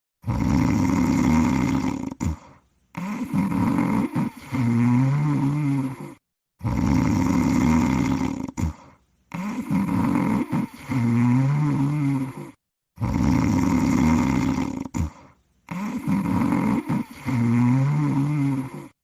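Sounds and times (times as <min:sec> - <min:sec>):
cartoon cat snoring: 0:00.2 - 0:19.0.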